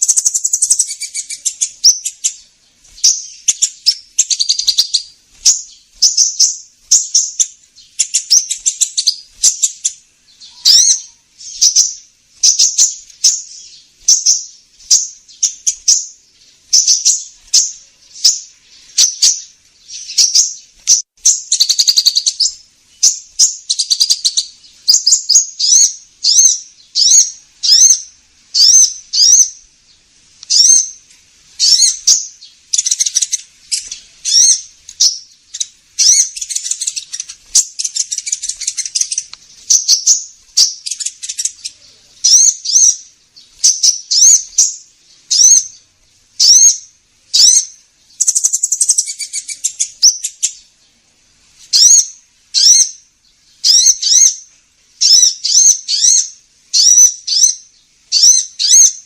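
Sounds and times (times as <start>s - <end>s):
sunbird chirps and trills: 0.0s - 59.0s.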